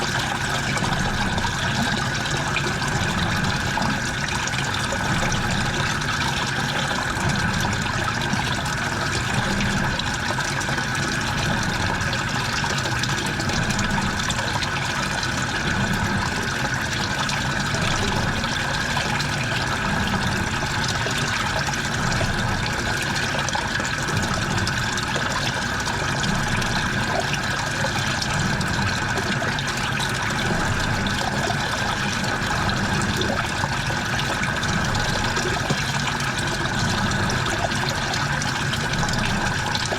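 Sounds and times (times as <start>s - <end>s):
washing machine hum: 0.0s - 39.9s
water rushing in drum: 0.0s - 39.9s.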